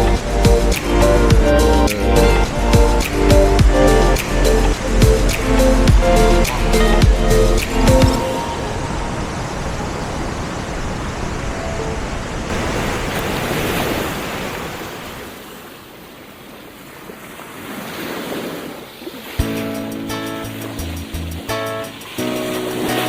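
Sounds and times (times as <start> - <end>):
waves breaking: 0.0 - 19.8.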